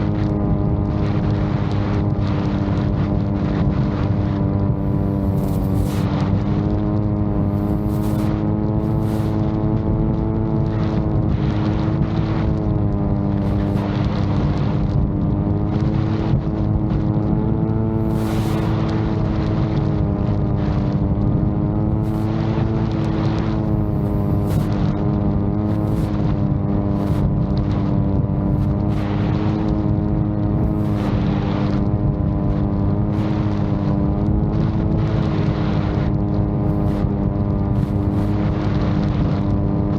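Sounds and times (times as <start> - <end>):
drone propellers droning: 0.0 - 39.9
wind buffeting microphone: 0.0 - 39.9.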